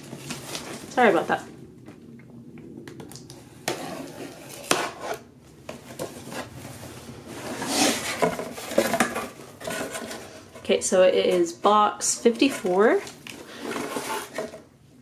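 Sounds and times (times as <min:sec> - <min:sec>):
cardboard rustling: 0:00.0 - 0:01.4, 0:03.7 - 0:14.7.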